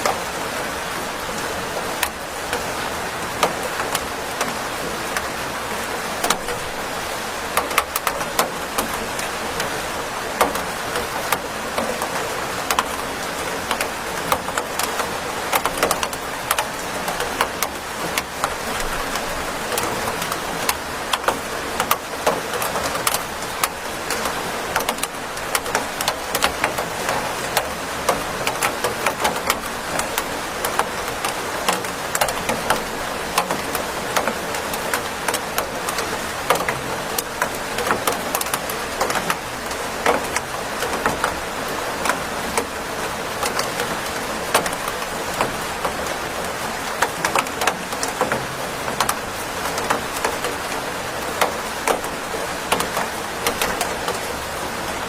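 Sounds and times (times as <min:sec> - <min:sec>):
raindrops tapping close by: 0:00.0 - 0:55.0
steady rain hiss: 0:00.0 - 0:55.0.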